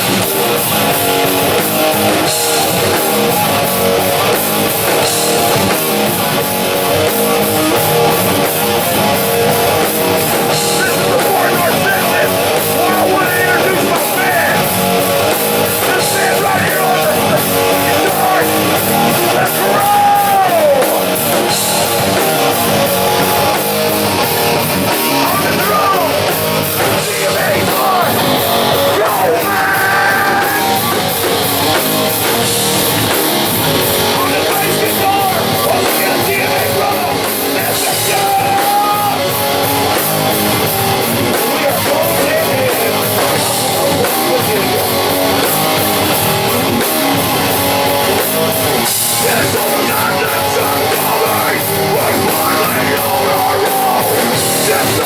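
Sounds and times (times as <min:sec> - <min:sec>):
drums and cymbals: 0:00.0 - 0:55.0
electric guitar bending notes: 0:00.0 - 0:55.0.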